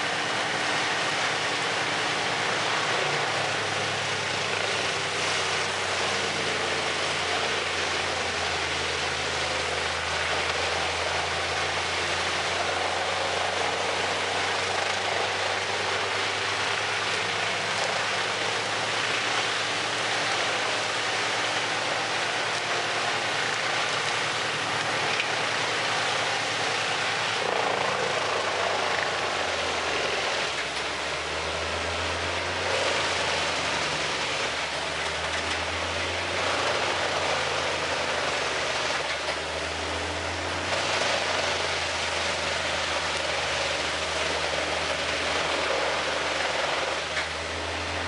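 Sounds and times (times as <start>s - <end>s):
wood chipper roaring: 0.0s - 48.0s.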